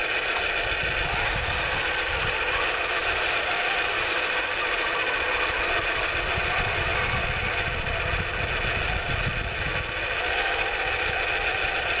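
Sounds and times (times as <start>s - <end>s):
model truck whirring: 0.0s - 12.0s.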